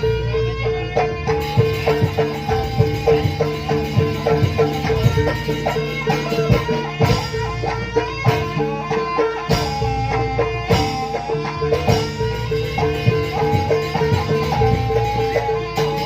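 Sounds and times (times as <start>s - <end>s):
drum strokes: 0.0s - 16.0s
gamelan music: 0.0s - 16.0s.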